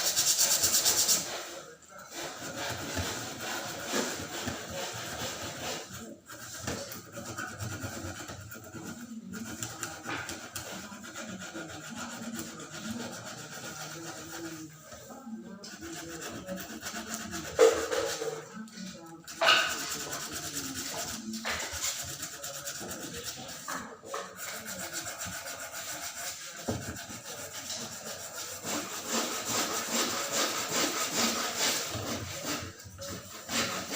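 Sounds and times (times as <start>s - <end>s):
sandpaper rubbing hard surface: 0.0s - 33.9s.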